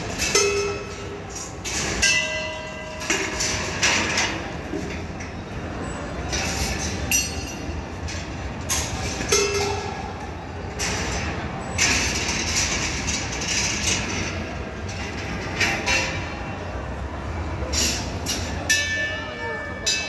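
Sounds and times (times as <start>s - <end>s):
balls rolling on metal tracks: 0.0s - 20.0s.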